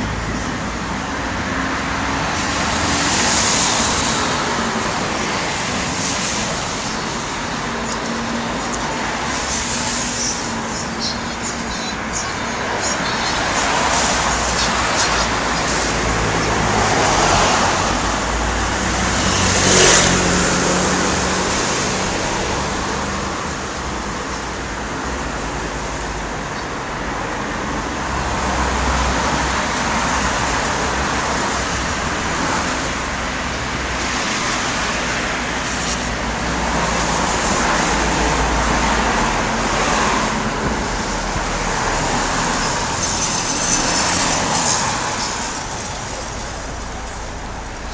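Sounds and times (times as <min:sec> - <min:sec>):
vehicles passing on wet road: 0:00.0 - 0:47.9.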